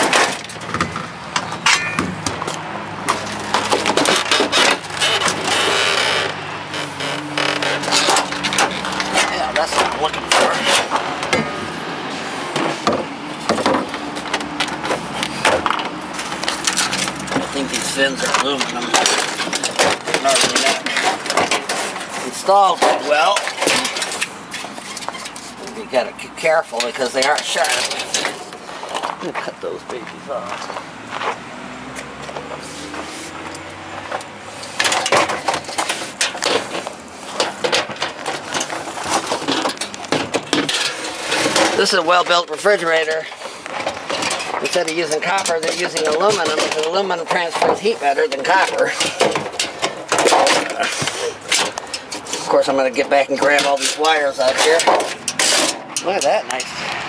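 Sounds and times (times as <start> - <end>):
sharp knocks and cracks: 0.0 - 11.5, 12.6 - 25.5, 33.5 - 42.4, 43.0 - 52.4, 53.4 - 57.0.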